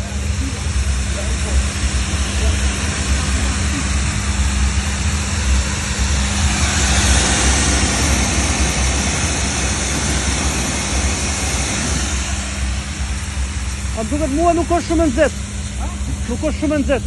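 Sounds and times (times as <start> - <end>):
pressure washer running: 0.0 - 17.0.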